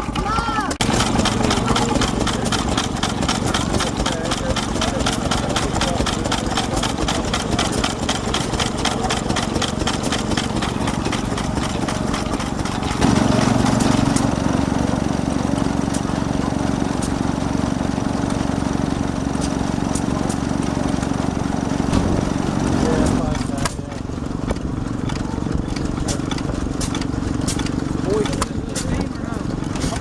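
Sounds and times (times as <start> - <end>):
stationary engines running: 0.0 - 30.0.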